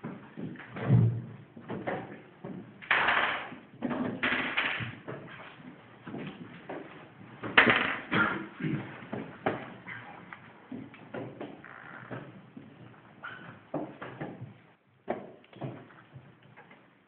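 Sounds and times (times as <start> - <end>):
knocks of people moving about: 0.0 - 17.0.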